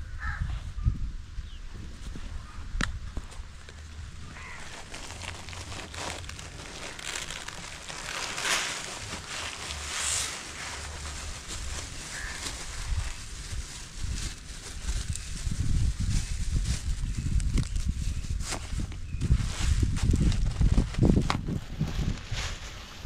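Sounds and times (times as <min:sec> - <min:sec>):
rustling and crackling: 0:01.8 - 0:23.0.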